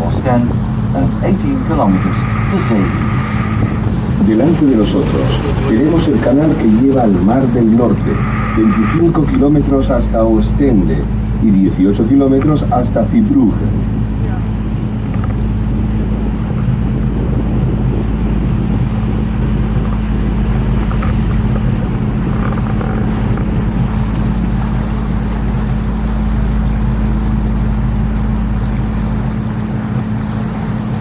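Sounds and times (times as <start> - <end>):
boat engine humming: 0.0 - 31.0
water and air noise: 0.0 - 31.0.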